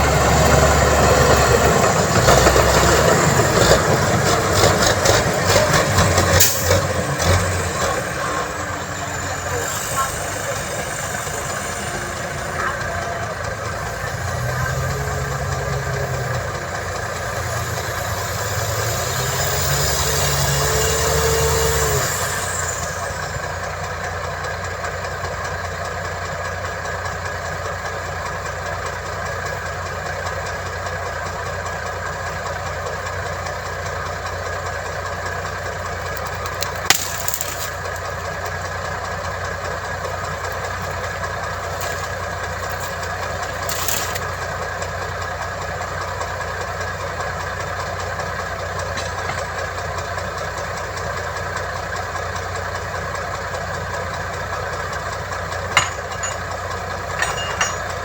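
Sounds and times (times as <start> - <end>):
diesel engine revving and idling: 0.0 - 58.0.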